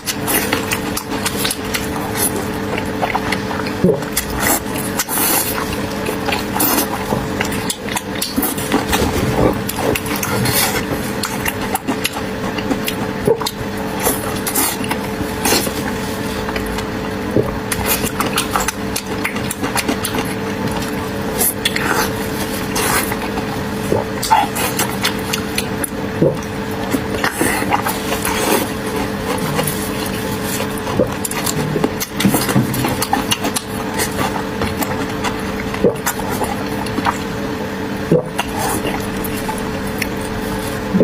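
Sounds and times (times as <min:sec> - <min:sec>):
person chewing food: 0:00.0 - 0:41.0
steady low hum: 0:00.0 - 0:41.0.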